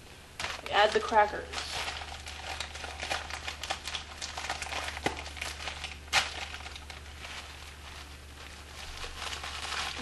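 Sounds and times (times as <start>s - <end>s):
cracker packs crinkling: 0.4s - 10.0s.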